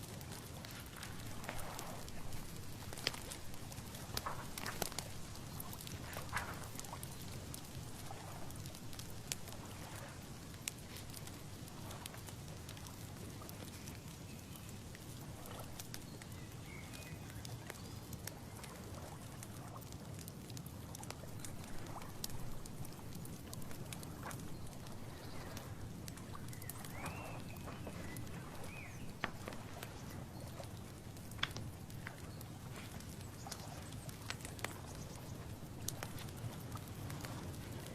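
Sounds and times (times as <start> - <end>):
low rumble of wind: 0.0 - 37.9
scattered ticks and crackles: 0.0 - 37.9.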